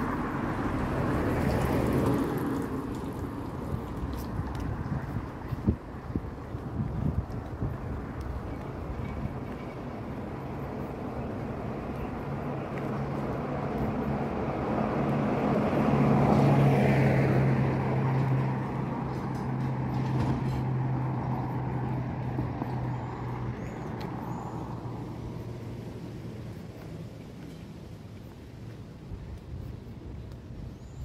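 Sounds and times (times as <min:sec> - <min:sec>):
background traffic: 0:00.0 - 0:31.0
motor vehicle passing: 0:00.0 - 0:31.0.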